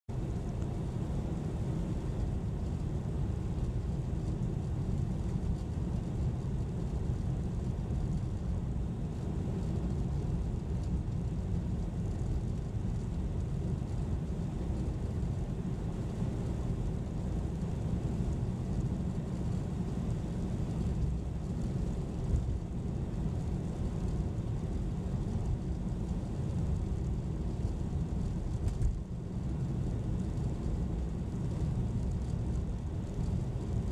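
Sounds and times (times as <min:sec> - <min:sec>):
car engine and tyre rumble: 0:00.1 - 0:33.9.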